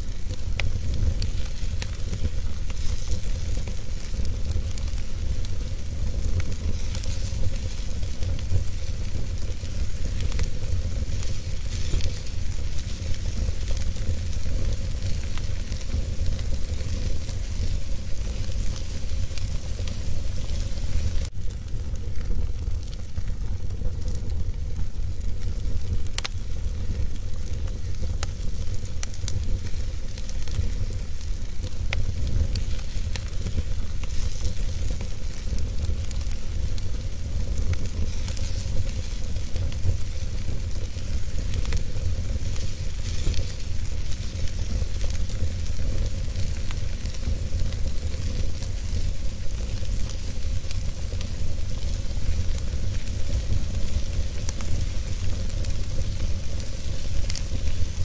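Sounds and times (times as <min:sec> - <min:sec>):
fire rumbling and hissing: 0:00.0 - 0:58.0
logs crackling and popping: 0:00.0 - 0:58.0.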